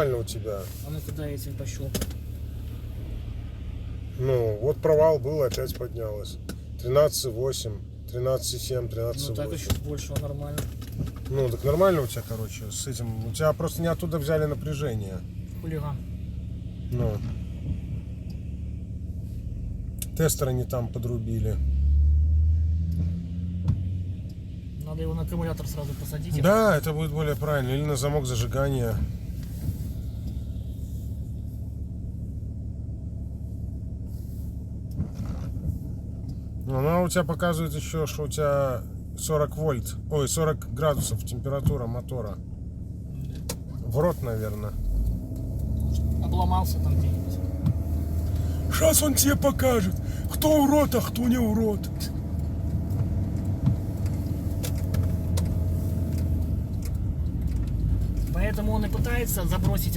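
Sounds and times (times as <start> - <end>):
road noise: 0.0 - 59.9
van engine rumble: 0.0 - 59.9.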